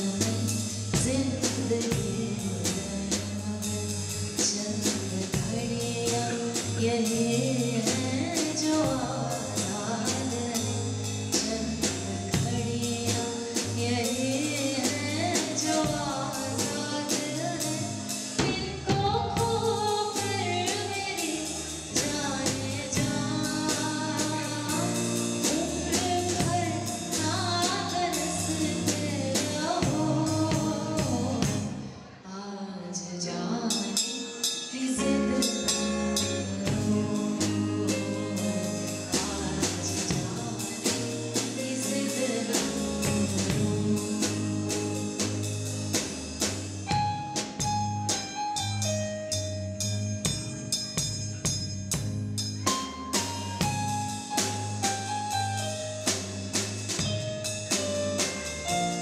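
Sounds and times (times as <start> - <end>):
steady drum beat: 0.0 - 31.9, 33.8 - 59.0
music with singing: 0.0 - 59.0.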